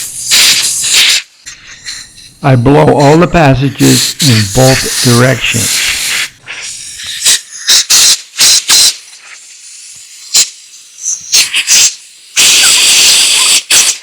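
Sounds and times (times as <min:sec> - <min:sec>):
compressed air blasts hissing: 0:00.0 - 0:14.0.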